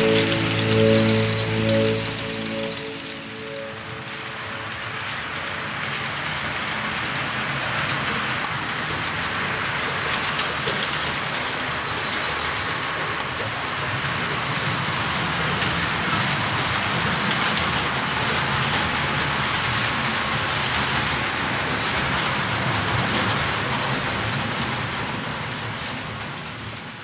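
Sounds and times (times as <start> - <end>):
model train wheels rattling on track: 0.0 - 27.0.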